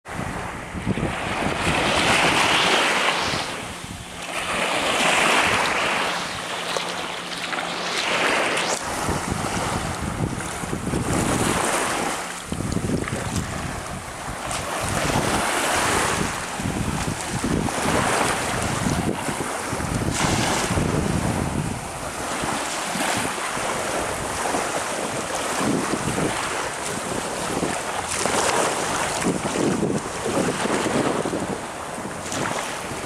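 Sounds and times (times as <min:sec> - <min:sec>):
wind buffeting microphone: 0:00.1 - 0:33.0
small waves lapping on sand: 0:00.2 - 0:33.0.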